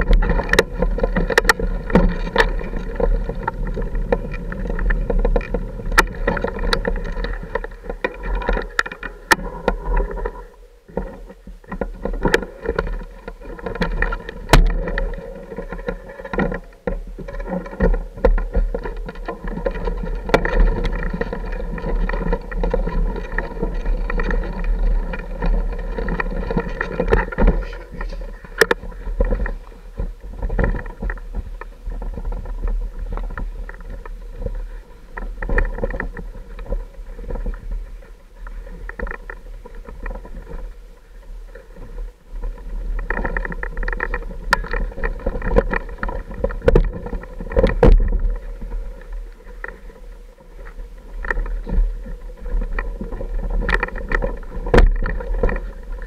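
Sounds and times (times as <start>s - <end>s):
bike rattling over rocks: 0.0s - 56.0s
off-road motorcycle engine: 0.0s - 56.0s.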